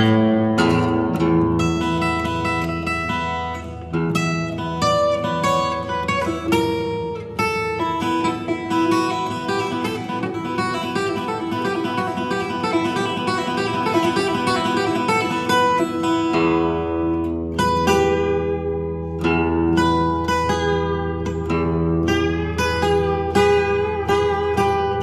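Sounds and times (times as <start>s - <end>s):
acoustic guitar plucked and strummed: 0.0s - 25.0s.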